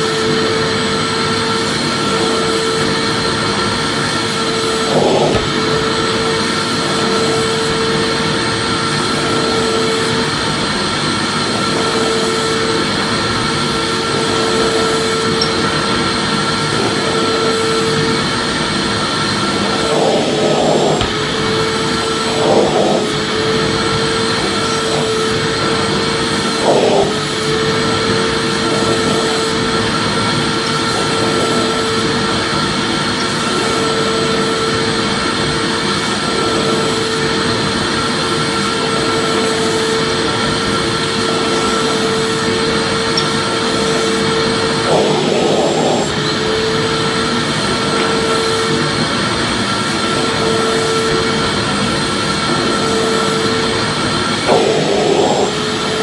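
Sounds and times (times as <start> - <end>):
vacuum cleaner motor running: 0.0 - 56.0.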